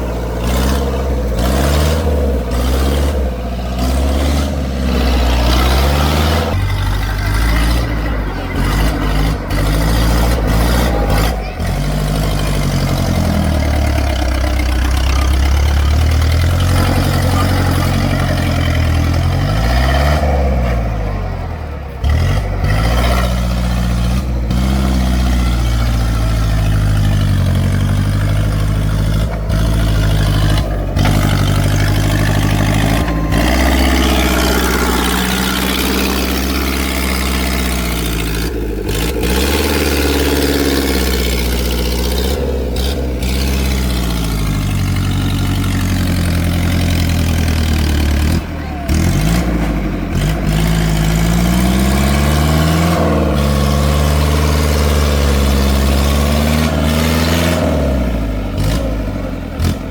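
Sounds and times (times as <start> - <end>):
tractor engine revving: 0.0 - 59.9.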